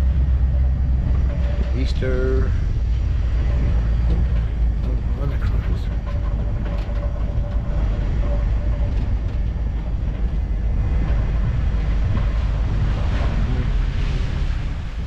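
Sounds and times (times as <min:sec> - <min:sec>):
truck road and driveline noise: 0:00.0 - 0:15.0
wind buffeting microphone: 0:00.0 - 0:15.0.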